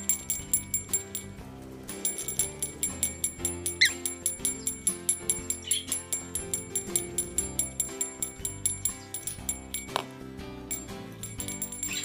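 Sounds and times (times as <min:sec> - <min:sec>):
held instrumental notes: 0:00.0 - 0:12.0
jingling percussion beat: 0:00.0 - 0:12.0.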